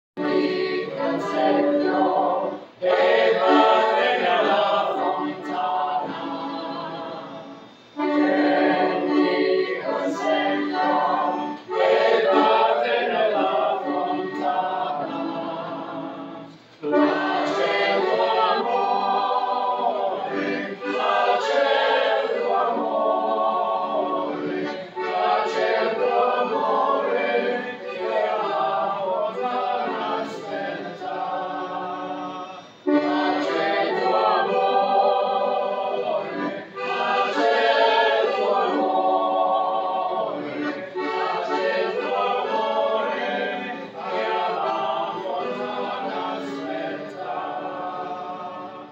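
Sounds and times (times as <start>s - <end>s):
group singing folk song: 0.2s - 48.9s
piano accordion: 0.2s - 48.9s.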